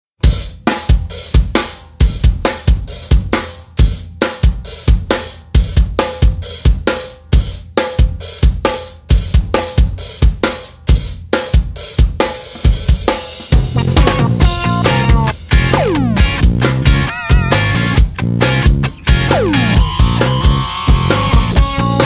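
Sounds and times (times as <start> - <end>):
rock drum kit beat: 0.2 - 22.0.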